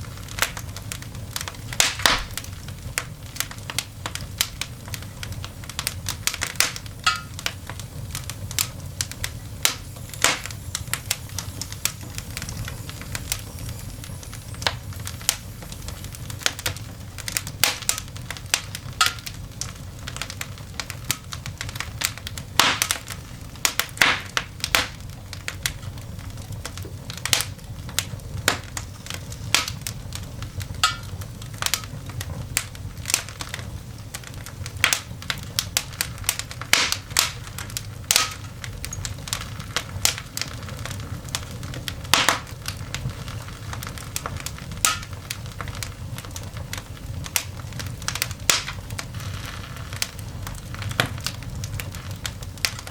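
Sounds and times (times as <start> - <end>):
coal fire crackling and popping: 0.0 - 52.9.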